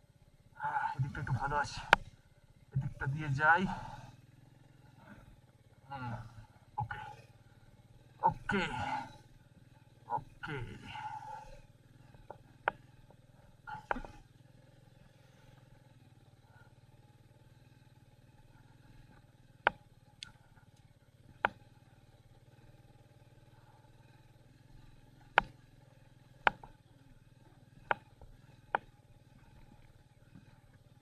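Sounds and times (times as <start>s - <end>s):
faint motorcycle engine: 0.0s - 31.0s.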